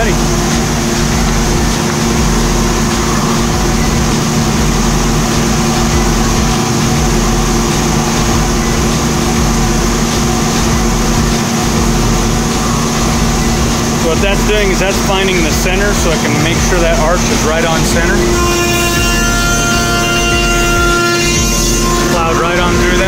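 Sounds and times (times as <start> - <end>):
machine mechanical hum: 0.0 - 23.0.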